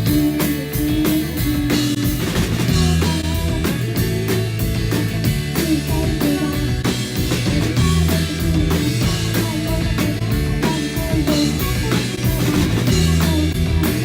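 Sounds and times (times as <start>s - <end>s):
rock music with drums bass guitar: 0.0s - 14.0s.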